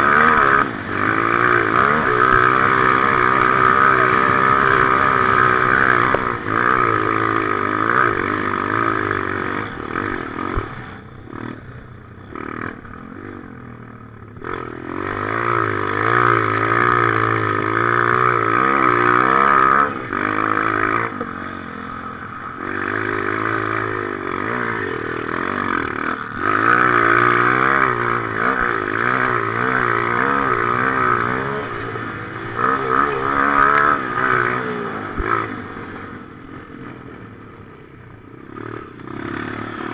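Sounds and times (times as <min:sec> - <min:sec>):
motocross motorcycle engine: 0:00.0 - 0:39.9.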